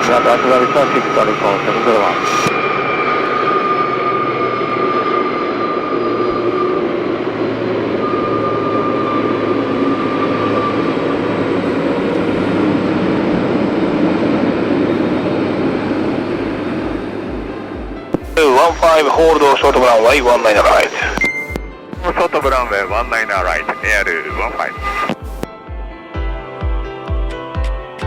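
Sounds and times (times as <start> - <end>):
jet engines whining: 0.0 - 25.5.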